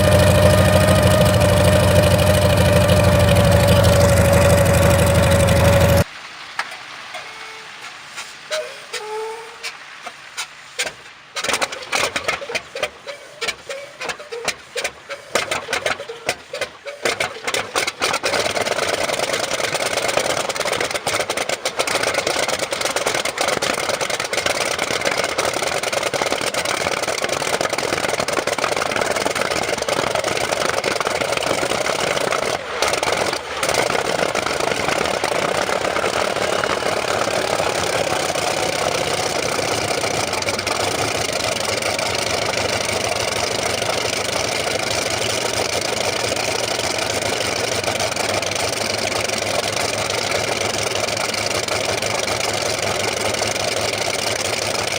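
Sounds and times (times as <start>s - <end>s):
helicopter engine starting: 0.0s - 6.1s, 11.4s - 54.9s
engine pops and bangs: 0.0s - 6.7s, 10.8s - 54.9s.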